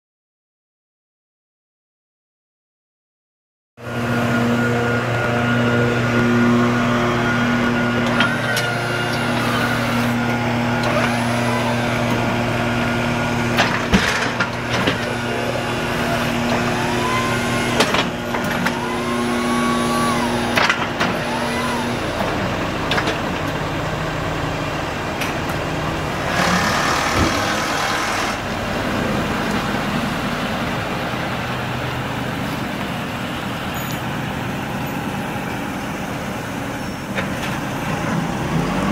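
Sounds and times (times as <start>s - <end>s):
truck engine idling: 3.8s - 38.9s.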